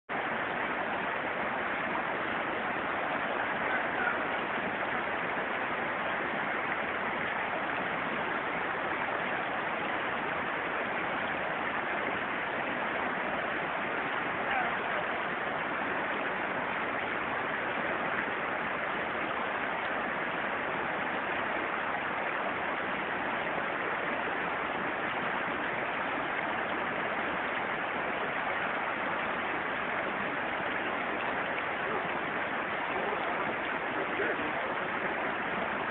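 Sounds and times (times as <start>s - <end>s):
river current rushing: 0.1s - 35.9s.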